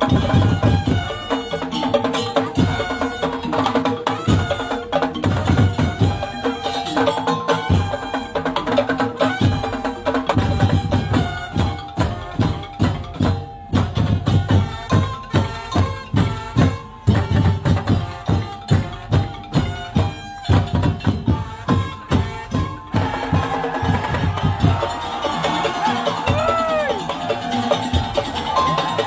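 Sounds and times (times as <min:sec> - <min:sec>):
drums and percussion beat: 0:00.0 - 0:29.0.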